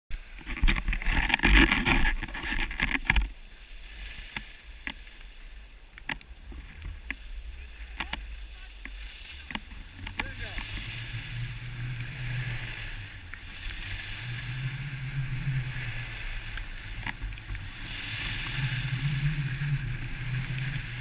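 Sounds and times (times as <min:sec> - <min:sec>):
wind rumble on microphone: 0:00.1 - 0:21.0
skis scraping on snow: 0:00.2 - 0:21.0.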